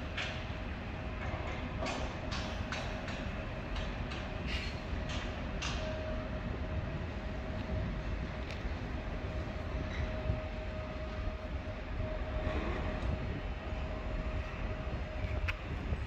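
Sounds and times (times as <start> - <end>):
constant whine: 0.0 - 16.0
train rumbling on tracks: 0.0 - 16.0.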